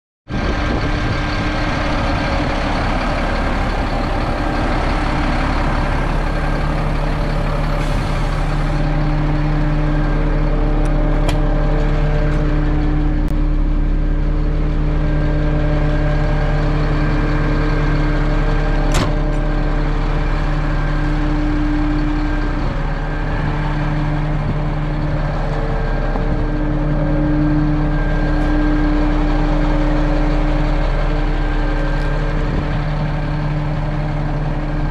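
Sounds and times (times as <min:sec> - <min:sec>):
diesel truck engine idling: 0:00.3 - 0:34.9.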